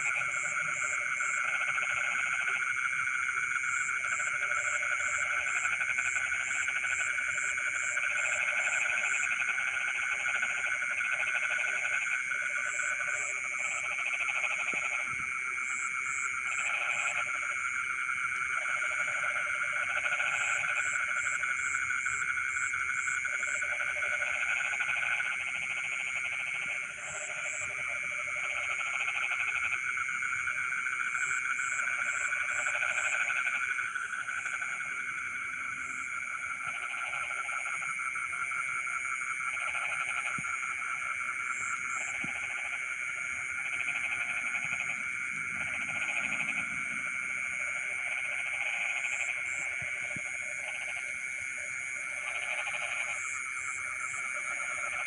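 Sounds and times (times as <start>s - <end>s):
frogs trilling: 0.0s - 55.0s
low pulsing frog croaks: 0.0s - 55.0s.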